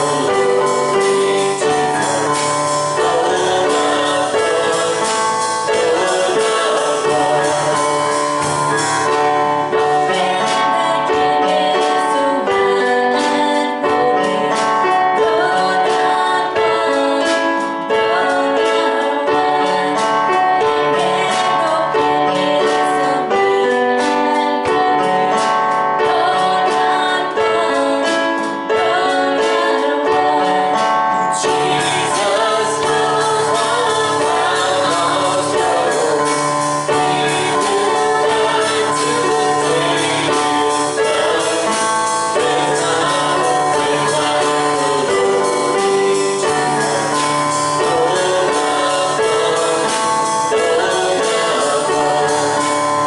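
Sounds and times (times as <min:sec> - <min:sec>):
keyboard sustained chords: 0:00.0 - 0:53.0
people singing: 0:00.0 - 0:53.0.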